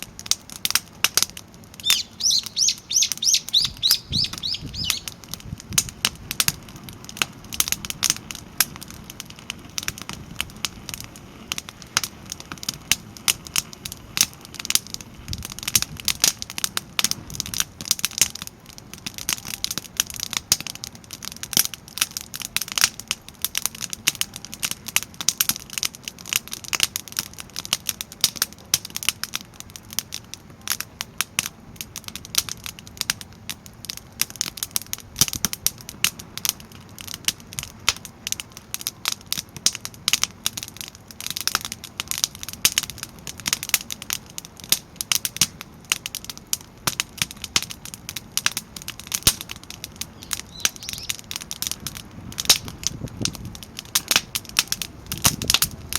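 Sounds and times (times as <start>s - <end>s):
firewood crackling and popping: 0.0s - 55.9s
low steady fire rumble: 0.0s - 55.9s.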